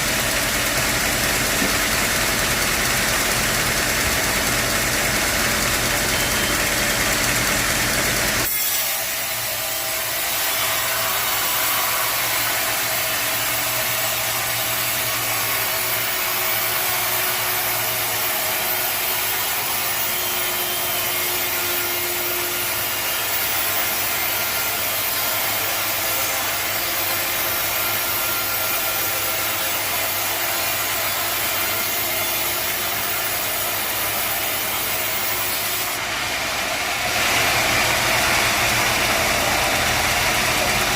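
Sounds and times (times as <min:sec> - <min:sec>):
saw cutting timber: 0:00.0 - 0:40.9.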